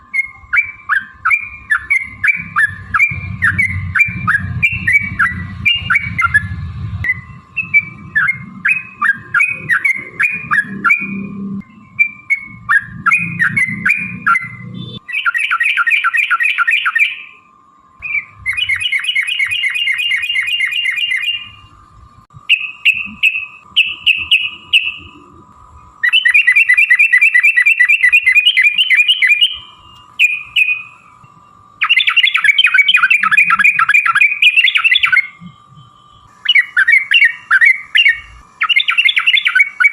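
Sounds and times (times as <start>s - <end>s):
bulbul chirping and trilling: 0.2s - 17.4s, 18.0s - 21.6s, 22.4s - 31.0s, 31.8s - 39.9s.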